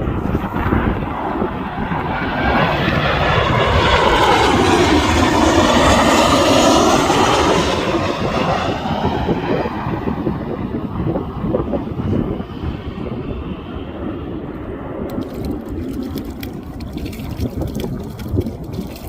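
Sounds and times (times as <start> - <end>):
aircraft passing overhead: 0.0 - 19.0.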